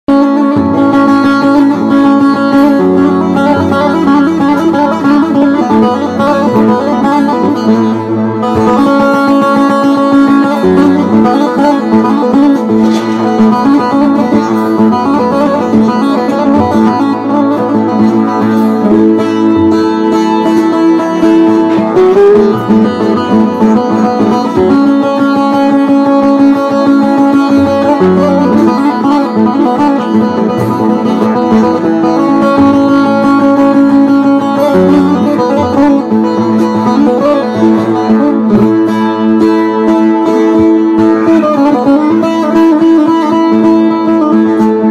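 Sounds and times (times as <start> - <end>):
plucked lute melody: 0.0 - 44.9.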